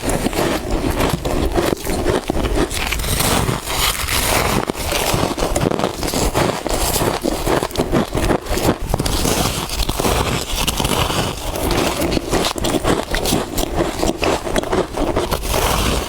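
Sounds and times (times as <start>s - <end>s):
frost being crunched and chewed: 0.0s - 16.0s.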